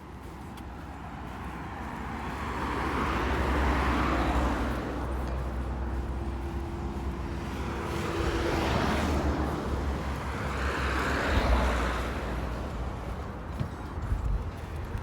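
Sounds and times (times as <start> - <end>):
cars passing by: 0.0 - 15.0
steady low traffic rumble: 0.0 - 15.0.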